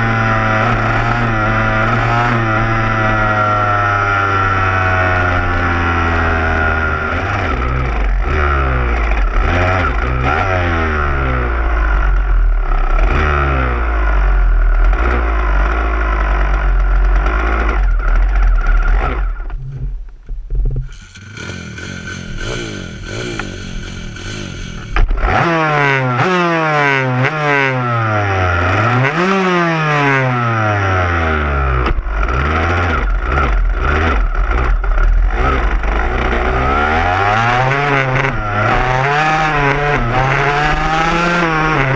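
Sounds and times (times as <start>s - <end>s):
dirt bike engine revving: 0.0s - 19.8s, 20.9s - 41.9s.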